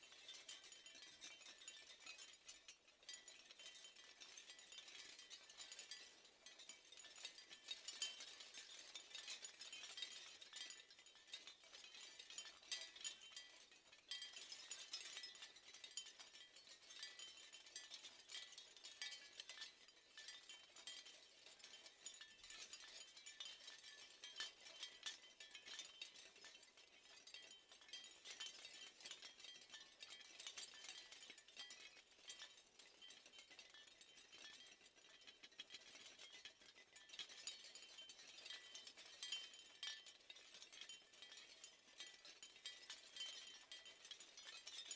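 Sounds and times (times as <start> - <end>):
seashell wind chimes tinkling: 0.0 - 44.9.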